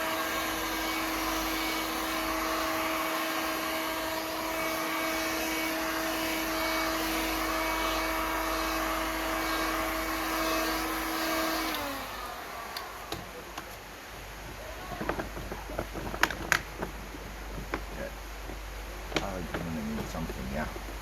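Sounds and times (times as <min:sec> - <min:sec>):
vacuum cleaner motor whining: 0:00.0 - 0:18.1.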